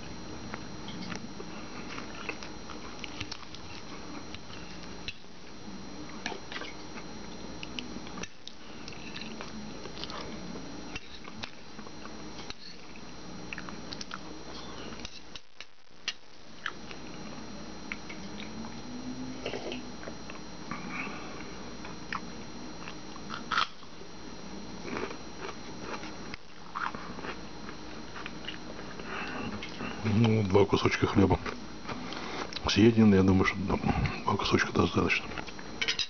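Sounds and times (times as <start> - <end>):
faint steady hum: 0.0 - 36.0
person chewing food: 0.5 - 18.8, 20.0 - 24.0, 24.8 - 30.4, 31.3 - 32.6.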